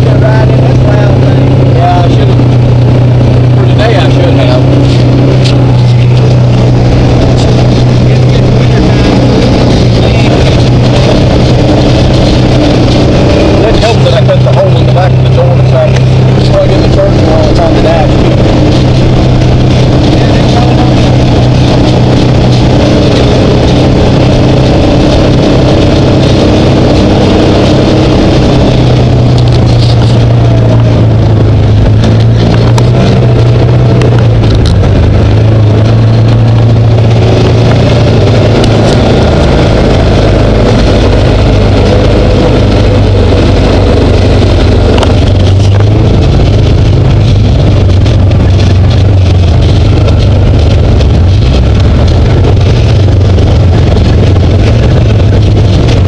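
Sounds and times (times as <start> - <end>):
engine running loud: 0.0 - 56.0.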